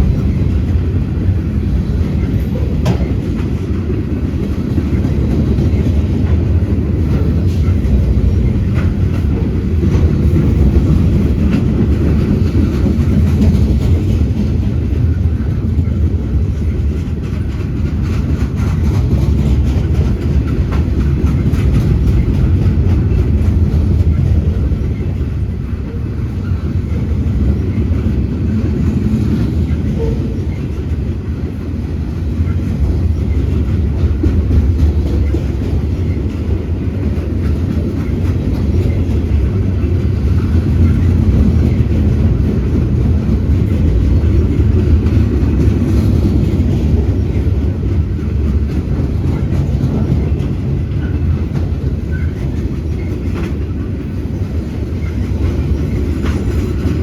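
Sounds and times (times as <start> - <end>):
train wheels rumbling on rail: 0.0 - 57.0
wheels clicking over rail joints: 0.0 - 57.0.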